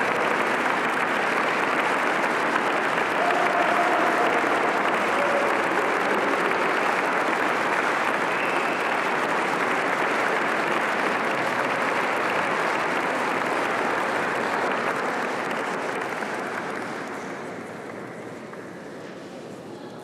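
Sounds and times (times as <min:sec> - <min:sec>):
audience applauding: 0:00.0 - 0:18.5.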